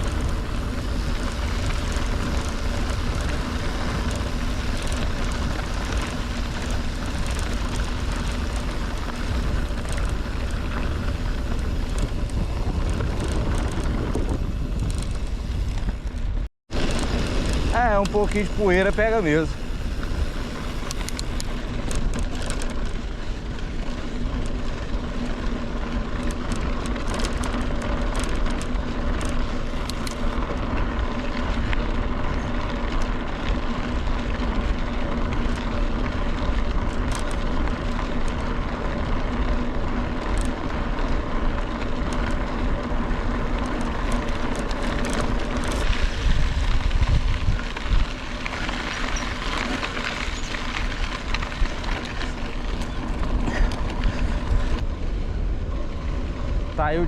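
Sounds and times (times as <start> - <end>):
bike tyres rolling on dirt: 0.0 - 57.0
gravel and bike rattles: 0.0 - 57.0
wind rushing over microphone: 0.0 - 57.0.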